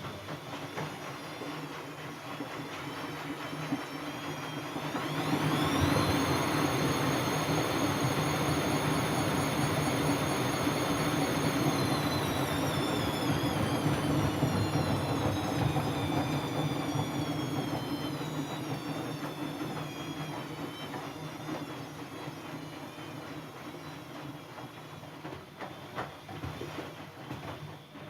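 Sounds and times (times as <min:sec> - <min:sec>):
washing machine spin slowing: 0:00.0 - 0:28.0.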